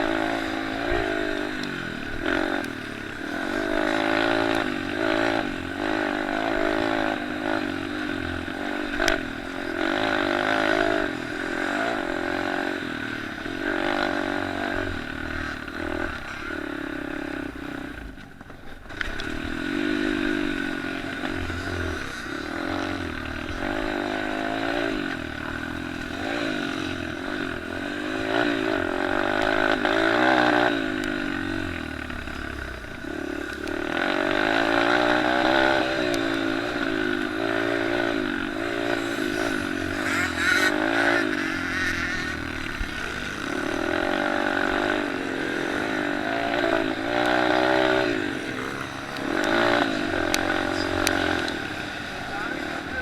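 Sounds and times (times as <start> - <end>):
motorbike engines racing: 0.0 - 53.0.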